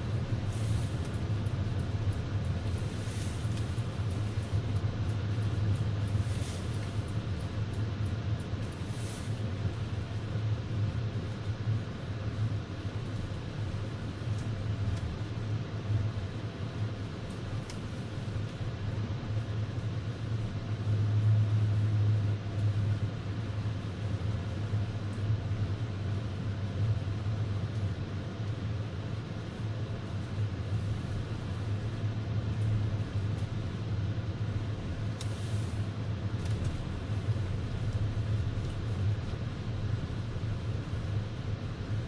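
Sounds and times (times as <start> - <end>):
car cabin road noise: 0.0 - 42.0.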